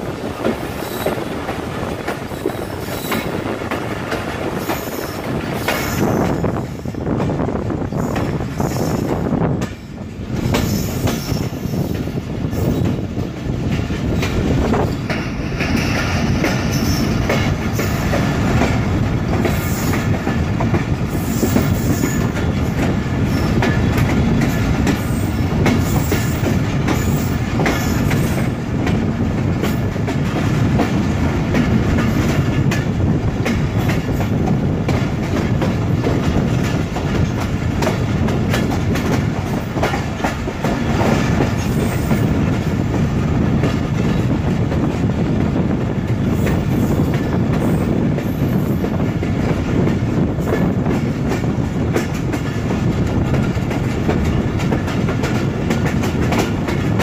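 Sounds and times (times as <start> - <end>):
rail joint clicks: 0.0 - 57.0
train wheels rumbling on rails: 0.0 - 57.0.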